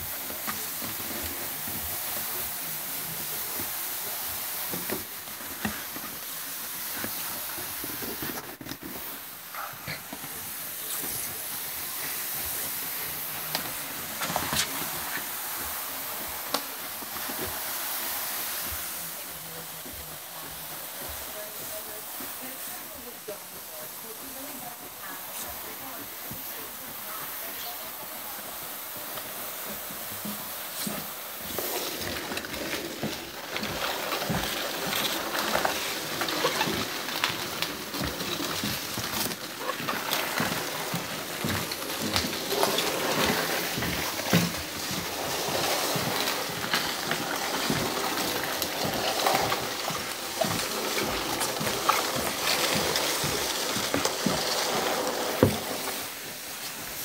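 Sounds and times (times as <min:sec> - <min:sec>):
cardboard scraping across floor: 0:00.0 - 0:57.0.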